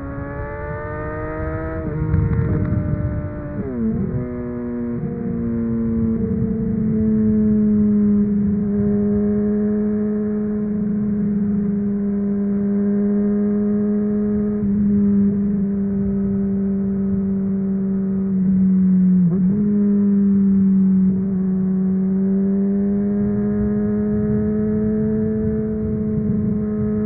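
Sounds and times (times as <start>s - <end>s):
motorcycle engine at steady revs: 0.0s - 27.0s.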